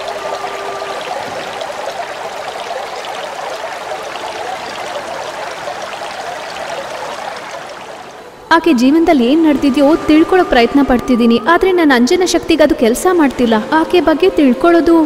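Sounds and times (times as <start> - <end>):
water gushing and splashing: 0.0 - 15.0.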